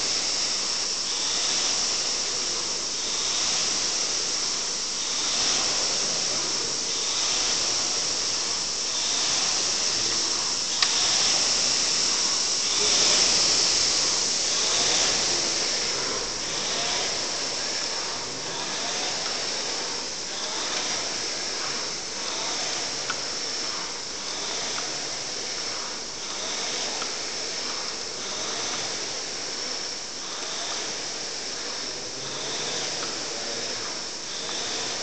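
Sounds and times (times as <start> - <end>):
rowing machine flywheel whooshing: 0.0 - 35.0.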